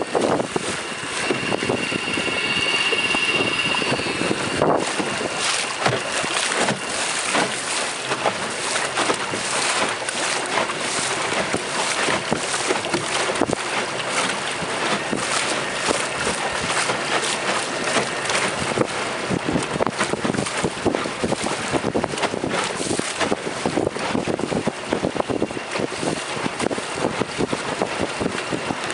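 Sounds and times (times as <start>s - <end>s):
water lapping against boat hull: 0.0s - 28.9s
wind buffeting microphone: 0.0s - 28.9s.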